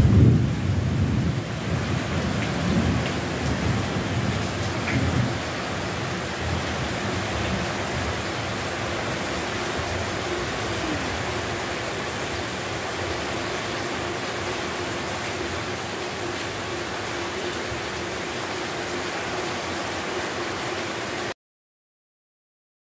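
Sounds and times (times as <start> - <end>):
heavy rain on wet ground: 0.0 - 21.4.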